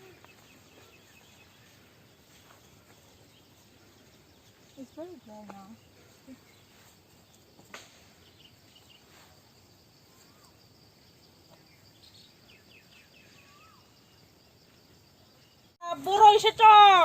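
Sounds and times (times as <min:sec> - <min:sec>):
soft bird chirps and calls: 0:00.0 - 0:09.4, 0:10.0 - 0:14.3
faint high insect hum: 0:00.0 - 0:17.0.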